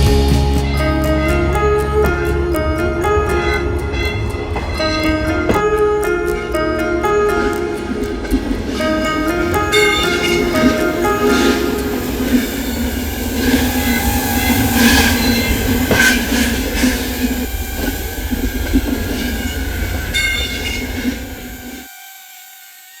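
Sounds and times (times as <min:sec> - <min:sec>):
train rumbling on rails: 0:00.0 - 0:21.9
wheels squealing: 0:00.0 - 0:23.0.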